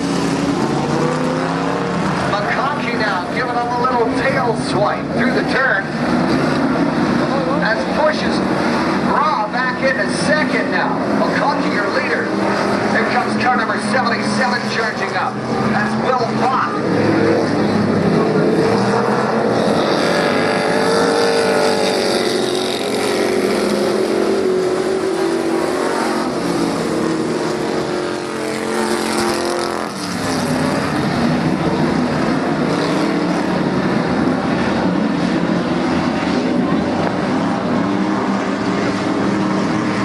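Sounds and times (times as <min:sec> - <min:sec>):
race car engines: 0:00.0 - 0:40.0.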